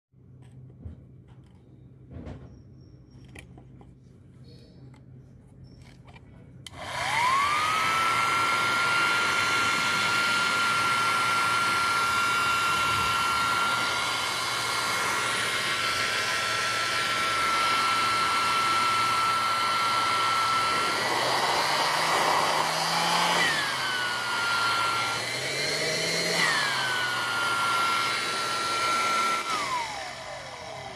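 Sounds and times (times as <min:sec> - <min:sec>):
blower fan motor whine: 0:05.6 - 0:30.9.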